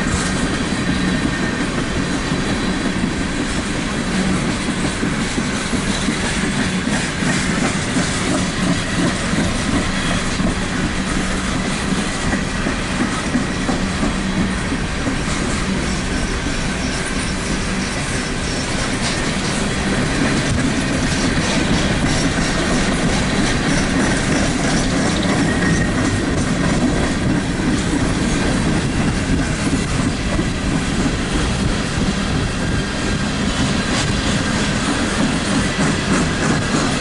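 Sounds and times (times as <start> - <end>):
wheels clicking over rail joints: 0.0 - 37.0.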